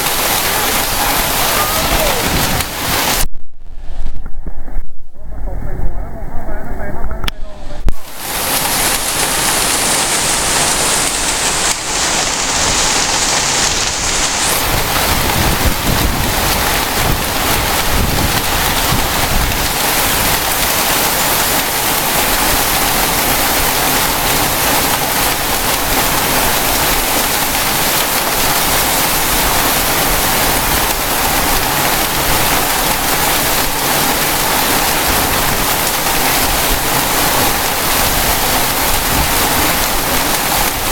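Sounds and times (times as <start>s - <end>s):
heavy rain hiss: 0.0s - 3.8s, 7.4s - 40.9s.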